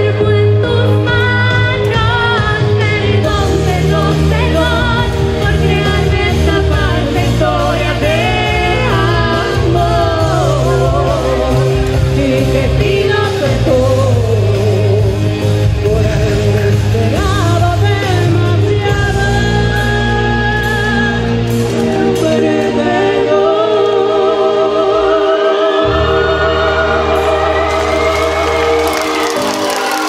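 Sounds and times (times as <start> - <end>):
two women singing a duet: 0.0 - 28.8.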